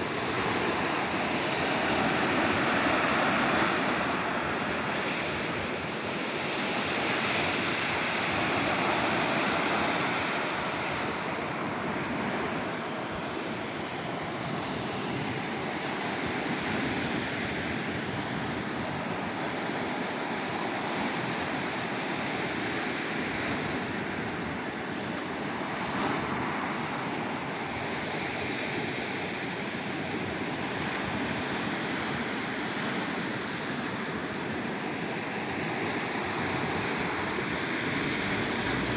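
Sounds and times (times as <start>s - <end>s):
surf washing onto shore: 0.0s - 33.0s, 34.6s - 38.9s.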